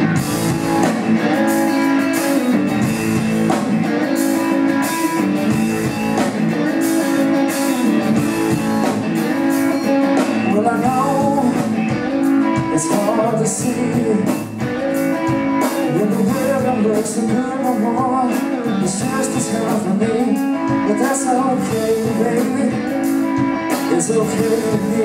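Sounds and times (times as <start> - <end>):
electric guitar: 0.0 - 25.0
live blues-rock band: 0.0 - 25.0.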